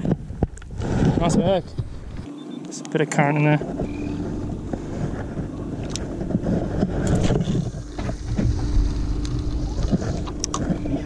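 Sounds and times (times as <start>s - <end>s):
wind on microphone: 0.0s - 2.3s, 3.6s - 11.0s
water around boat: 0.0s - 11.0s.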